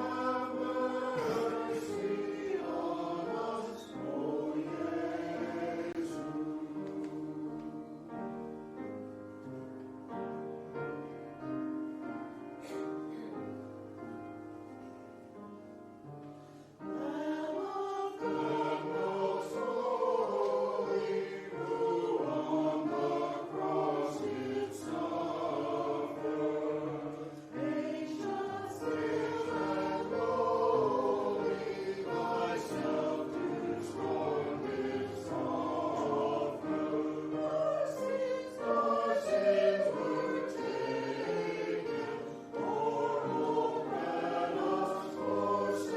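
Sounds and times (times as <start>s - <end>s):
church choir singing: 0.0s - 45.9s.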